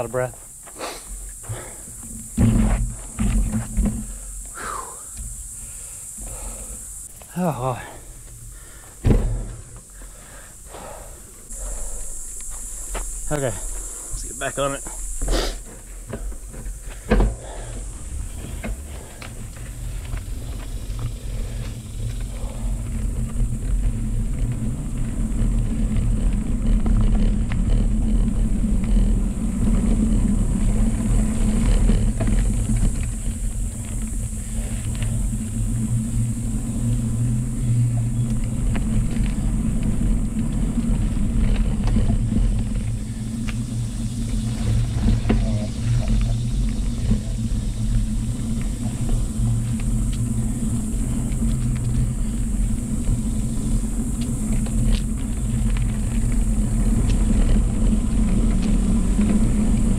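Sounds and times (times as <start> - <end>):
tyres rolling over dirt: 0.0 - 59.9
bike knocking over bumps: 1.3 - 11.0, 11.6 - 59.9.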